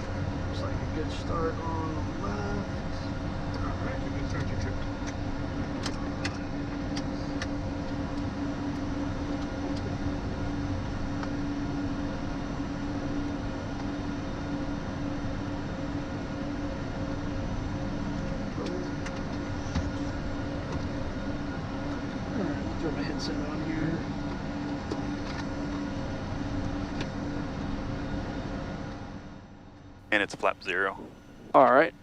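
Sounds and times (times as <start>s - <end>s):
jet engines idling: 0.0s - 32.0s.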